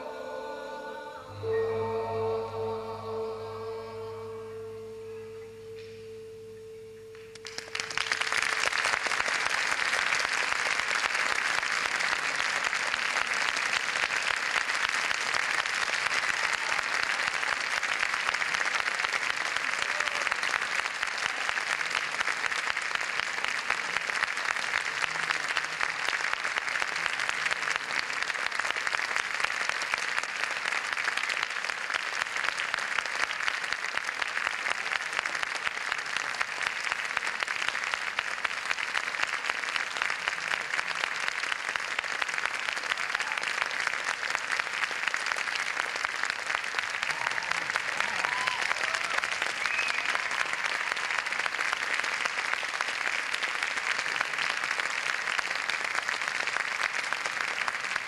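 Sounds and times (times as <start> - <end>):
audience applauding: 7.1 - 58.0.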